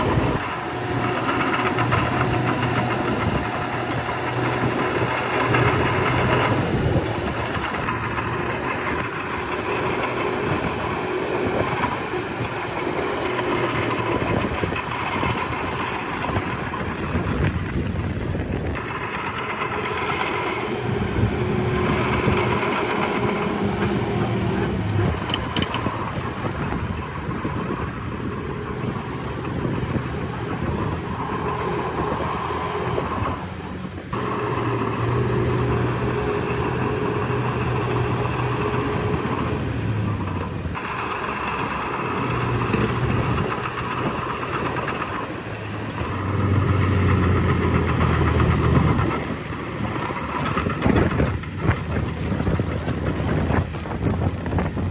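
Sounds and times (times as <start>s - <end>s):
diesel machinery engine drone: 0.0s - 54.9s.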